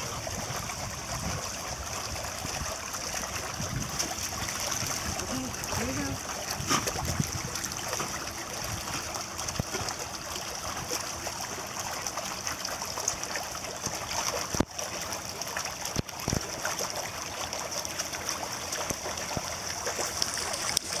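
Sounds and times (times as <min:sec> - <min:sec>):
dogs swimming and splashing: 0:00.0 - 0:21.0.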